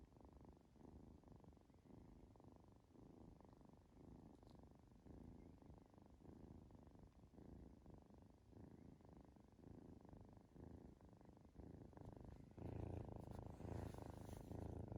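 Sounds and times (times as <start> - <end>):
kitten purring: 0.0 - 14.9.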